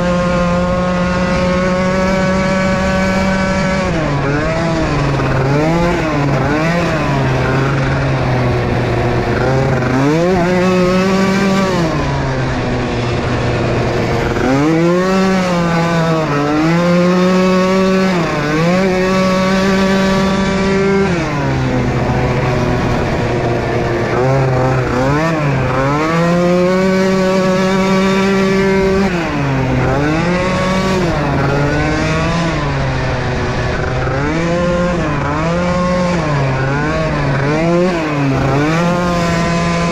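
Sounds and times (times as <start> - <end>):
small atv engines revving: 0.0 - 39.9.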